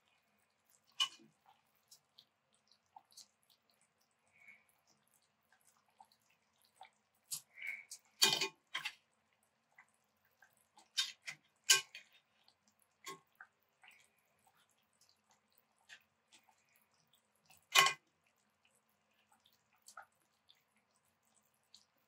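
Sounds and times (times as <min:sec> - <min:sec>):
sauce splashing and dripping: 0:00.0 - 0:22.0.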